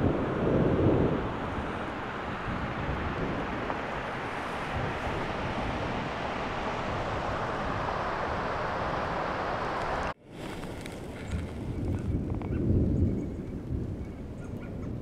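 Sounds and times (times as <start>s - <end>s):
storm wind through conifers: 0.0s - 15.0s
wind buffeting microphone: 0.0s - 15.0s.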